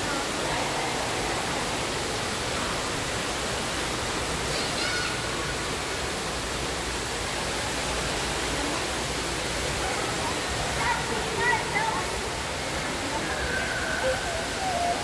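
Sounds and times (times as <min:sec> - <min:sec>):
indoor waterfall rushing: 0:00.0 - 0:15.0.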